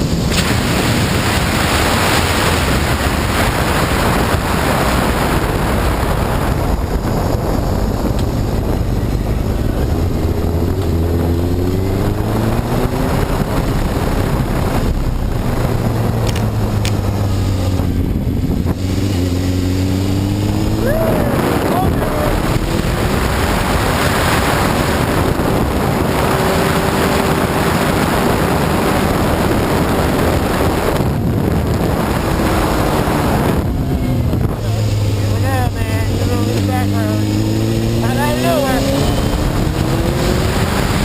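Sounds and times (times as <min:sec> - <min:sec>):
motorcycle engine revving: 0:00.0 - 0:41.0
wind rushing over microphone: 0:00.0 - 0:41.0.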